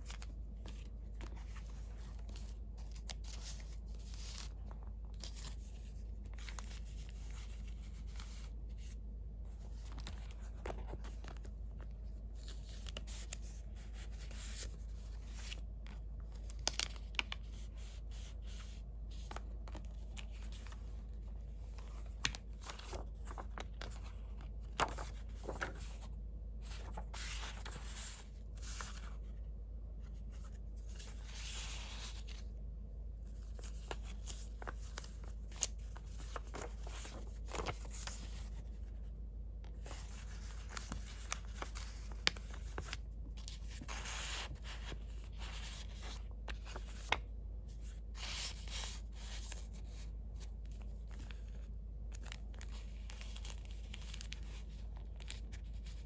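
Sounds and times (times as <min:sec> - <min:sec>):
paper and card rustling: 0:00.0 - 0:29.4, 0:30.0 - 0:32.5, 0:33.2 - 0:39.0, 0:39.7 - 0:56.0.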